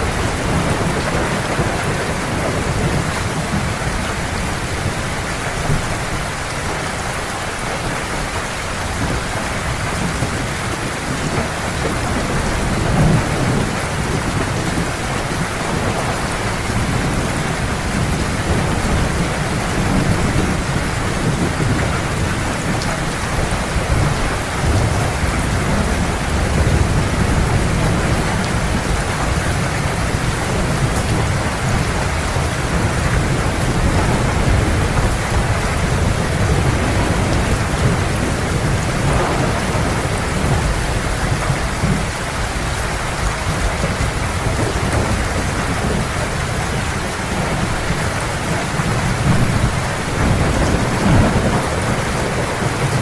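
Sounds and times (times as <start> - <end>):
low rumbling thunder: 0.0 - 6.3, 9.0 - 53.0
heavy rain: 0.0 - 53.0.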